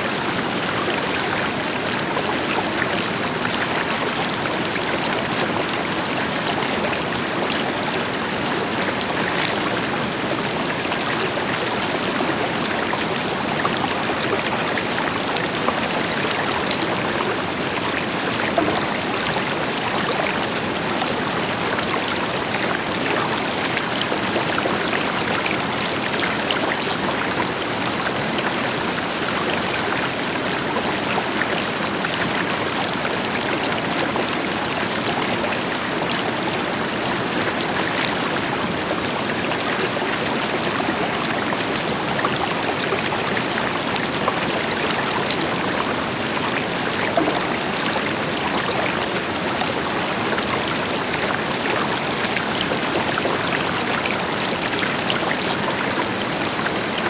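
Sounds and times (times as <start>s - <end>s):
river splashing over rocks: 0.1s - 57.0s.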